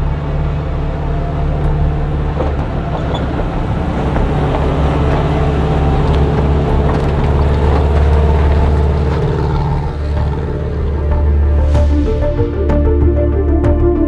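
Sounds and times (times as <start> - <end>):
van engine running: 0.0 - 13.3
tyres rolling over dirt and stones: 0.1 - 11.9.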